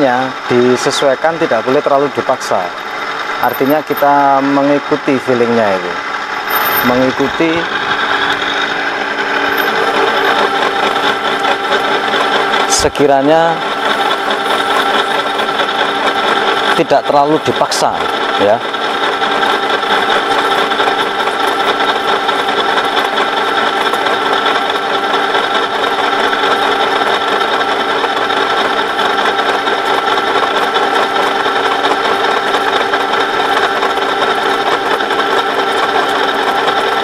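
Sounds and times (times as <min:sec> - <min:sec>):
end mill cutting steel: 0:00.0 - 0:37.0
milling machine whining: 0:00.0 - 0:37.0.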